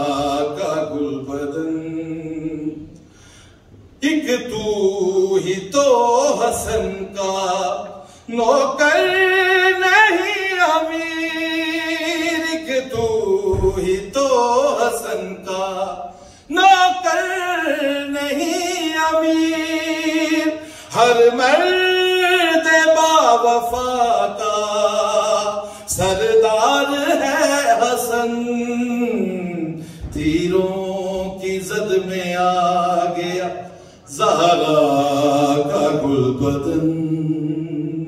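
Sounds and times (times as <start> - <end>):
man chanting into a microphone: 0.0 - 3.0, 4.0 - 38.0.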